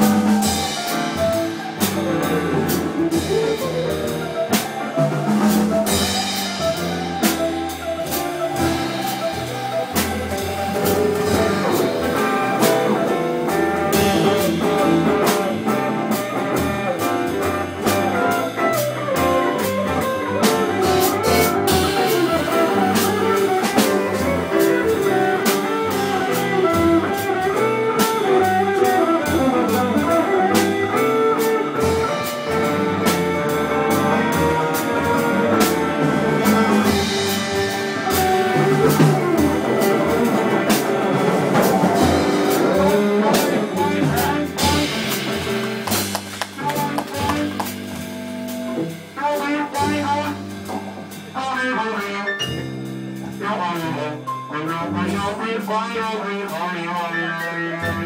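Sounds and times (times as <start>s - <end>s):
drum kit: 0.0s - 58.0s
piano: 0.0s - 58.0s
upright bass: 0.0s - 58.0s.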